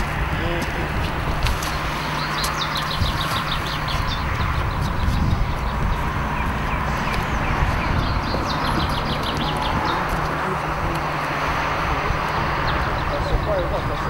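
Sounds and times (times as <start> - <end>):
low outdoor rumble: 0.0 - 14.0
small birds chirping: 0.0 - 14.0.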